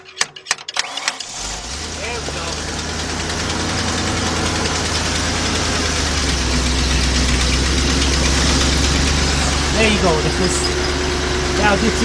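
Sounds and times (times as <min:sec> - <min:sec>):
truck engine idling: 0:01.3 - 0:12.0.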